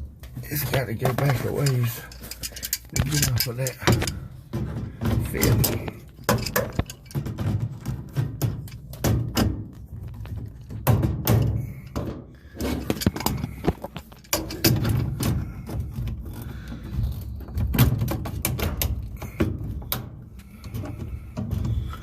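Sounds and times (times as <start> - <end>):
knocks and clunks of pump: 0.0 - 22.0.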